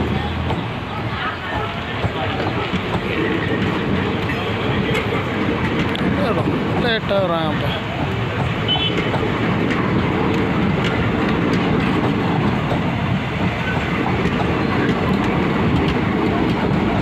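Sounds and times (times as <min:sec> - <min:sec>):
train wheels rumbling on track: 0:00.0 - 0:17.0
wheels clicking over rail joints: 0:00.0 - 0:17.0.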